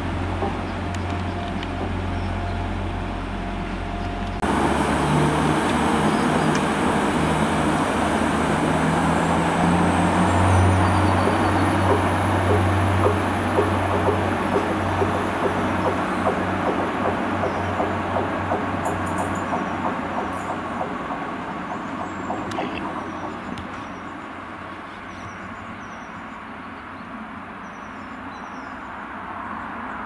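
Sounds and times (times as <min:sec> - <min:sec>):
diesel train engines humming: 0:00.0 - 0:26.0.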